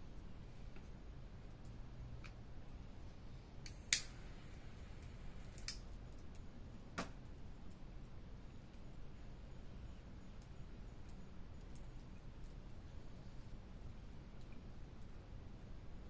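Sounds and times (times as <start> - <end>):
fire popping: 0.1 - 9.3, 10.0 - 15.6
campfire crackling: 0.1 - 16.0.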